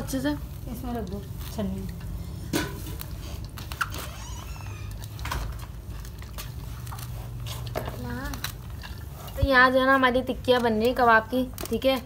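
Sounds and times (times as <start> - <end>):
hand squishing moist mixture: 0.0 - 12.0.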